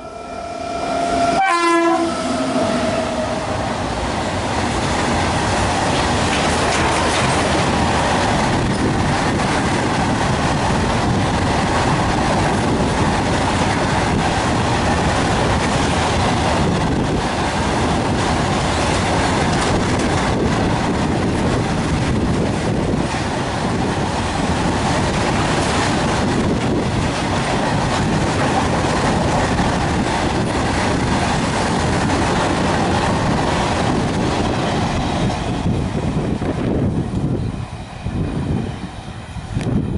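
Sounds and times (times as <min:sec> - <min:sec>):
steel wheels running on rails: 0:02.0 - 0:39.9.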